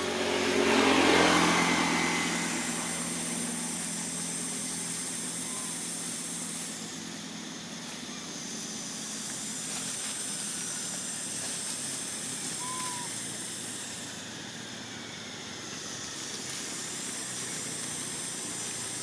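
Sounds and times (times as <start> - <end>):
constant high hiss: 0.0 - 19.0.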